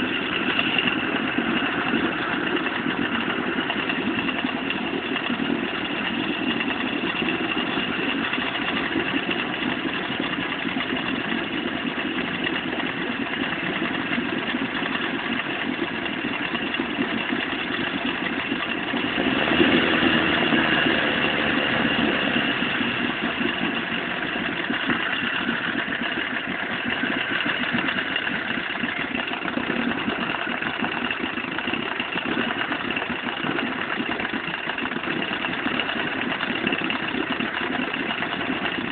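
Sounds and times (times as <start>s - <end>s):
engine knock: 0.0s - 38.9s
outboard motor running: 0.0s - 38.9s.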